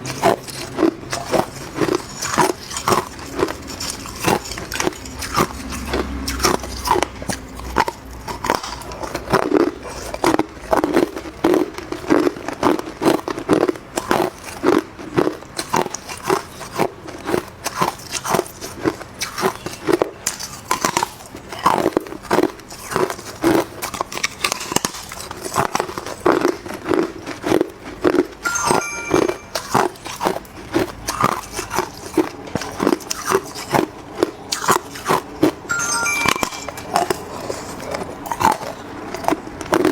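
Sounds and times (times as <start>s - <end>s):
person crunching ice: 0.0s - 28.6s, 29.2s - 36.2s.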